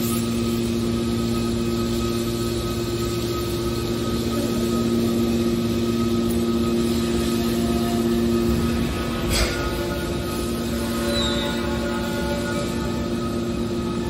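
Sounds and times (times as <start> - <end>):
hydraulic pump humming: 0.0 - 14.0.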